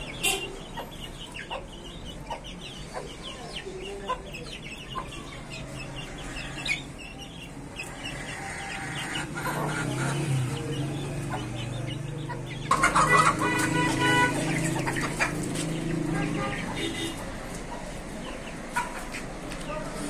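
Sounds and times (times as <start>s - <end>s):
chickens clucking and peeping: 0.0s - 20.0s.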